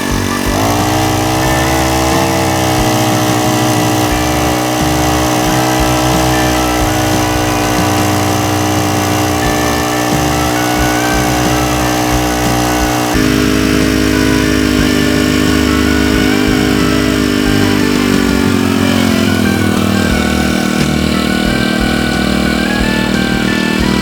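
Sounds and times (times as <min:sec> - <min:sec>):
small water pump engine running: 0:00.0 - 0:24.0.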